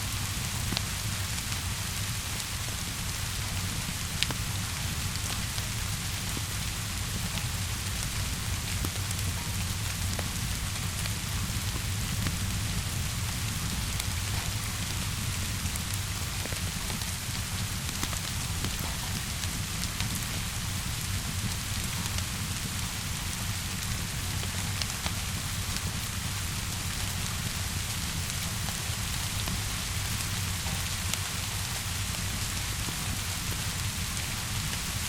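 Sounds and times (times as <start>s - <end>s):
steady rainfall: 0.0s - 35.0s
fire crackling: 0.1s - 35.0s.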